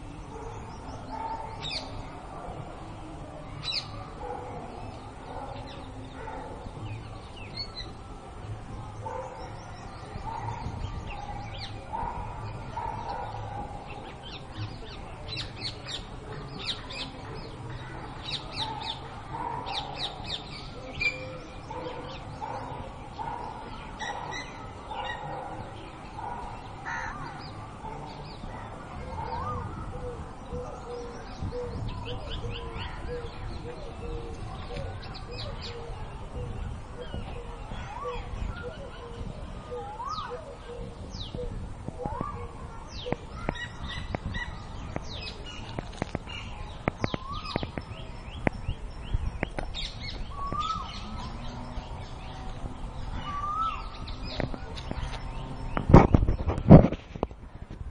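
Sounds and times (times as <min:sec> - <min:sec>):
small birds chirping: 0:08.8 - 0:57.3.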